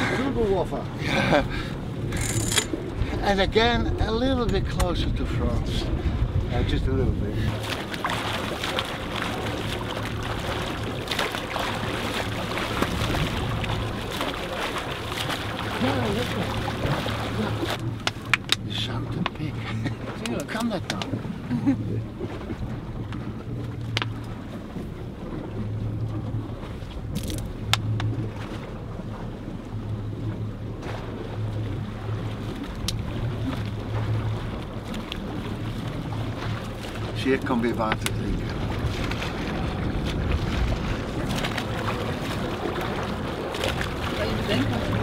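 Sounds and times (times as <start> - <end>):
boat engine drone: 0.0 - 45.0
wind: 0.0 - 45.0
swimmer splashing water: 7.2 - 45.0.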